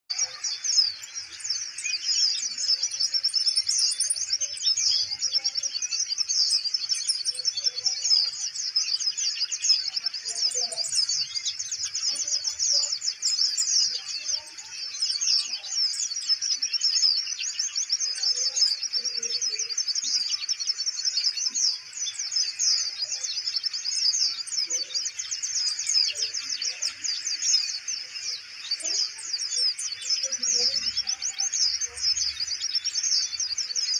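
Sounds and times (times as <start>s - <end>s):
sunbird twittering song: 0.1s - 33.9s.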